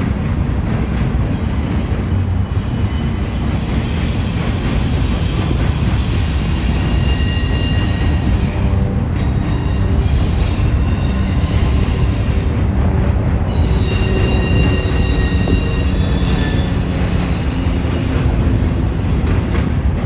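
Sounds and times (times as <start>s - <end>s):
train wheels rumbling on rail: 0.0s - 20.0s
high-pitched wheel squeals: 1.4s - 12.8s, 13.5s - 19.8s.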